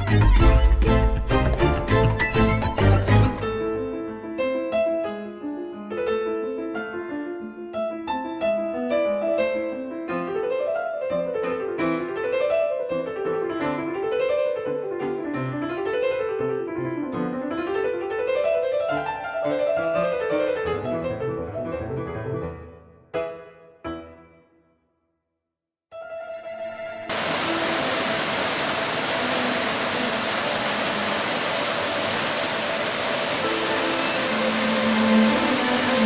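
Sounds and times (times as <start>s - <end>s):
slow piano melody: 0.0s - 24.6s, 25.9s - 36.0s.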